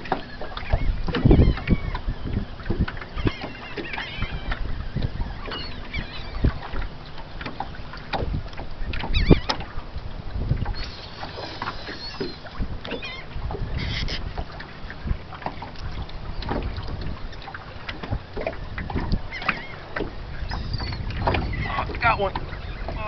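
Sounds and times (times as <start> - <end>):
water slapping boat hull: 0.0 - 23.0
wind buffeting microphone: 0.0 - 23.0
birds calling: 0.1 - 8.1, 8.8 - 9.9, 10.6 - 23.0.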